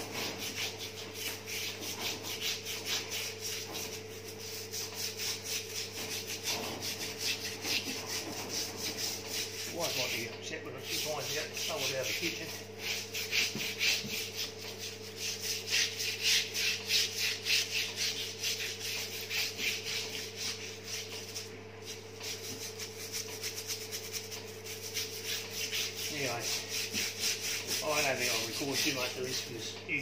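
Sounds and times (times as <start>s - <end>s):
brush scrubbing metal: 0.0s - 29.6s
steady low hum: 0.0s - 30.0s.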